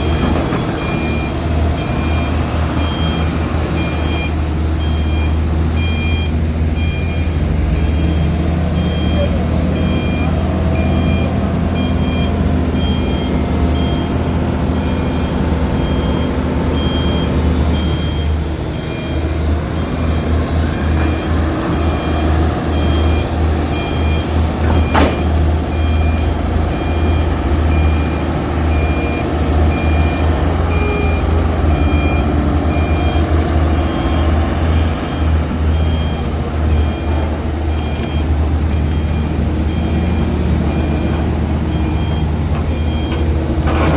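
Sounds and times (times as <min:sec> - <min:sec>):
heavy diesel machinery drone: 0:00.0 - 0:43.9
reversing alarm beeping: 0:00.0 - 0:43.9.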